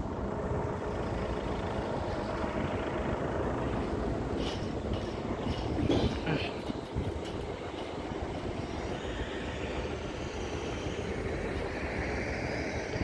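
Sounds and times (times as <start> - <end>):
steady rumbling outdoor noise: 0.0 - 13.0.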